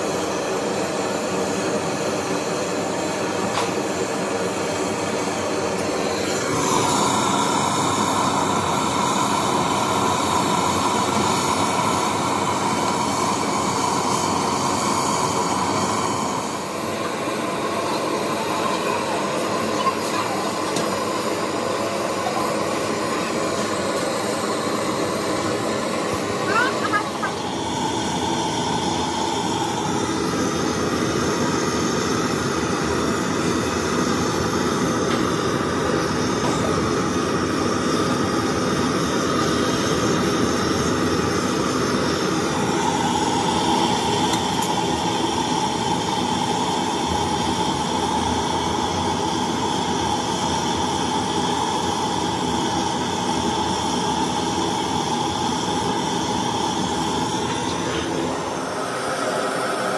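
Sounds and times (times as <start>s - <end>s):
blowtorch flame roaring: 0.0s - 59.9s.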